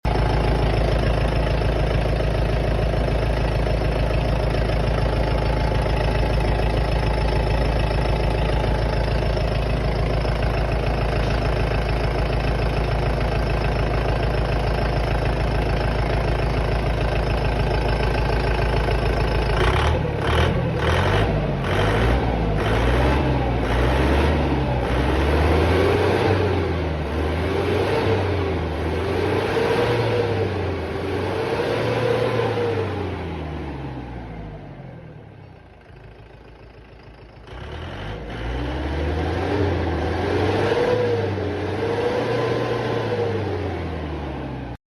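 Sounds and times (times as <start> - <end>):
excavator diesel engine: 0.0 - 44.8.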